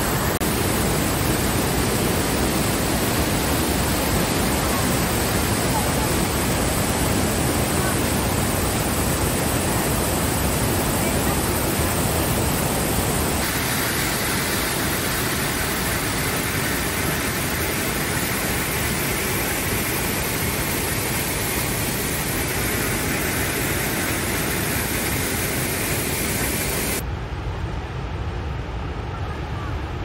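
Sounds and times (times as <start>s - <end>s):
waterfall rushing over rocks: 0.0s - 27.0s.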